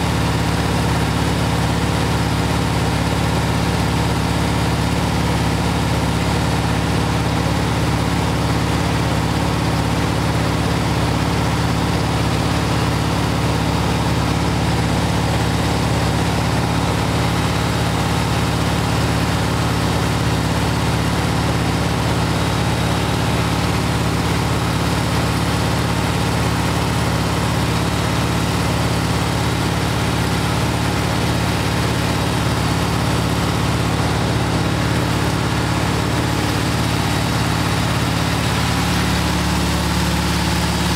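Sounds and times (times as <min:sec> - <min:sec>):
air-cooled engine at high idle: 0:00.0 - 0:40.9.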